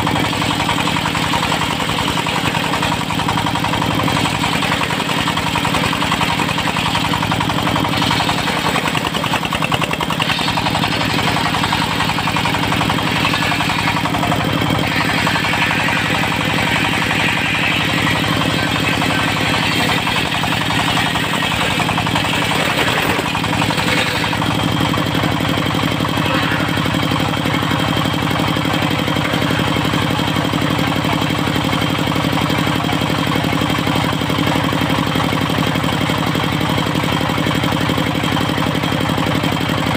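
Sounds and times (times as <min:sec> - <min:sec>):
sawmill diesel engine running: 0:00.0 - 0:39.9.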